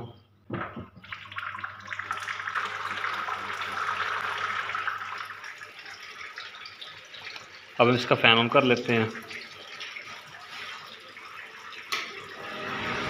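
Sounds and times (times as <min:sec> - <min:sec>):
water splashing into tank: 0:00.7 - 0:13.0.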